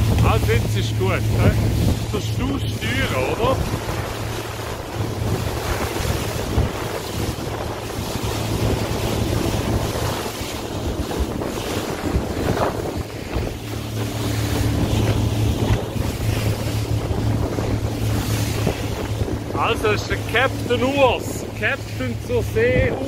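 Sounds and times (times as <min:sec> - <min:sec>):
motorboat engine drone: 0:00.0 - 0:23.0
water rushing along hull: 0:00.0 - 0:23.0
wind buffeting microphone: 0:00.0 - 0:23.0.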